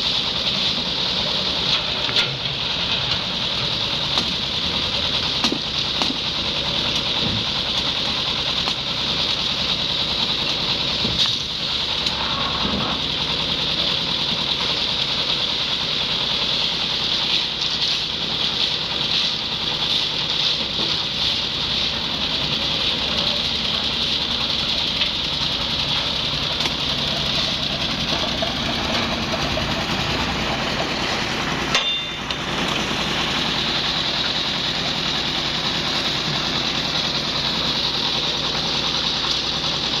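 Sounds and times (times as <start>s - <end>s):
concrete mixer engine chugging: 0.0s - 40.0s.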